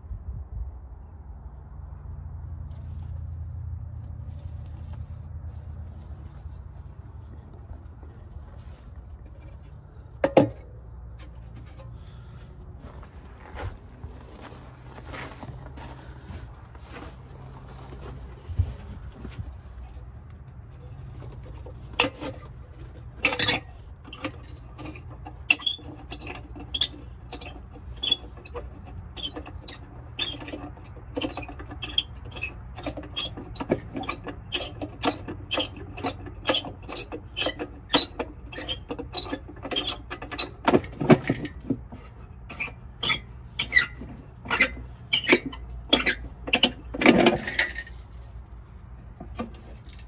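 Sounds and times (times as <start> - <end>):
rusty metal squeaking and scraping: 4.2 - 50.0.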